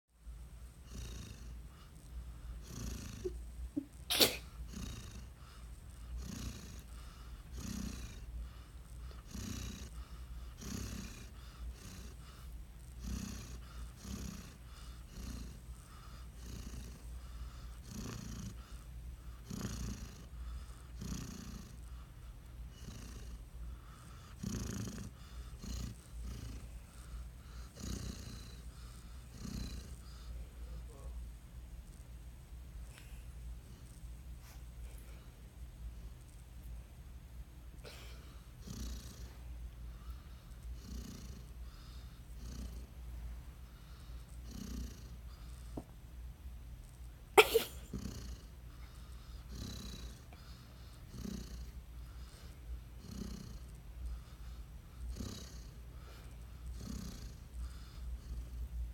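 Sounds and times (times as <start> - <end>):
dog snoring: 0.8 - 3.4, 4.4 - 31.2, 37.8 - 43.0, 43.6 - 45.9, 47.4 - 58.7.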